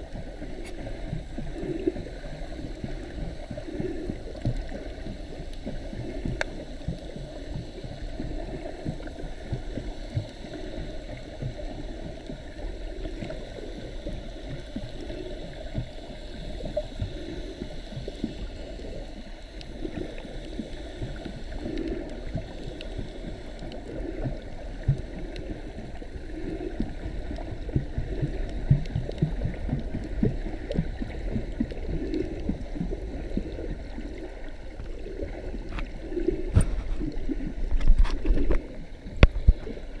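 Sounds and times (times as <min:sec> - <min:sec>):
underwater gurgling rumble: 0:00.0 - 0:40.0.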